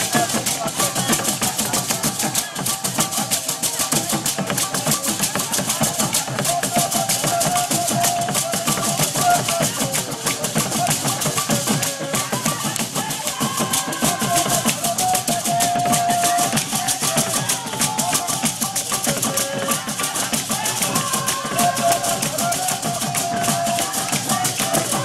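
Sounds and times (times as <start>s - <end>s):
music with busy drum rhythm: 0.0s - 25.0s.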